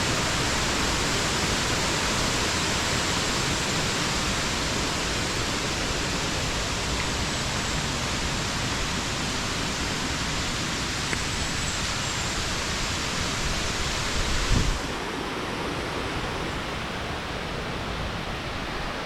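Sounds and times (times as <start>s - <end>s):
waterfall roaring into pool: 0.0s - 19.0s.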